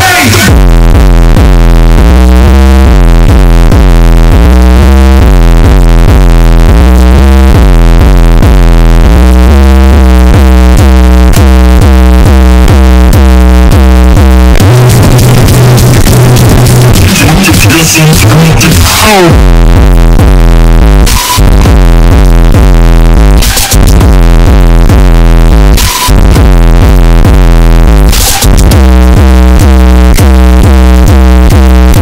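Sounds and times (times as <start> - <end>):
bass-boosted electronic music: 0.0 - 32.0.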